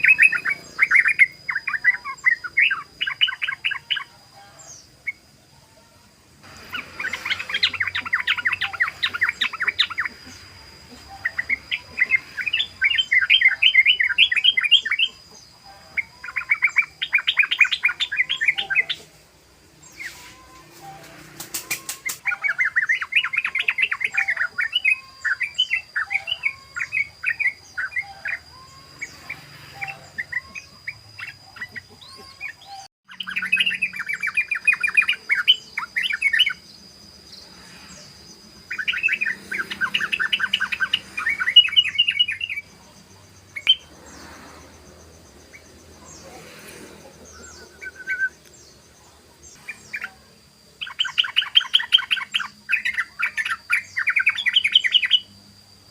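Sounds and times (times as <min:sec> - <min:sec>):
bird chattering song: 0:00.0 - 0:05.4, 0:06.4 - 0:55.4.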